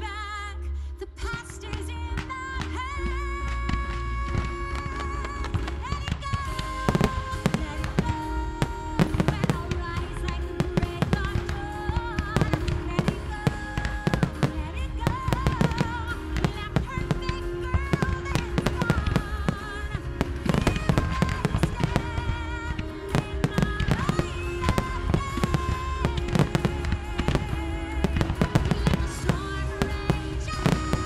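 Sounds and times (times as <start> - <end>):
music soundtrack: 0.0 - 31.0
fireworks bangs and crackles: 1.3 - 31.0.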